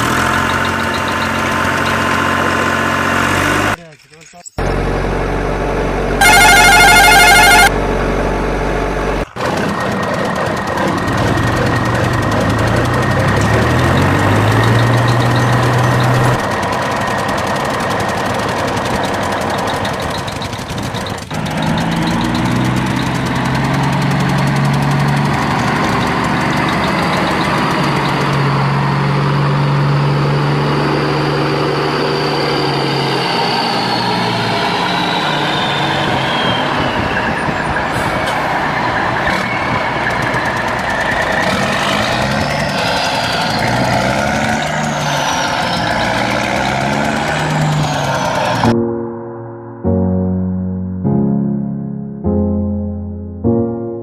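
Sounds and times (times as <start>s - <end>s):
heavy vehicle engine running: 0.0s - 3.8s, 4.6s - 48.7s.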